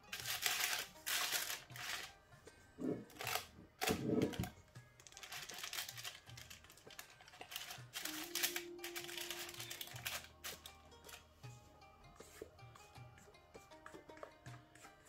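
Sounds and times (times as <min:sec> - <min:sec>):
light background music with beat: 0:00.0 - 0:15.0.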